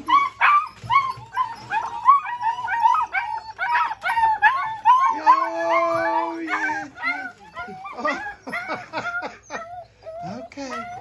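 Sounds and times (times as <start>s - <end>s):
long low puppy cry: 0.0s - 11.0s
puppies whining and yipping: 0.0s - 11.0s.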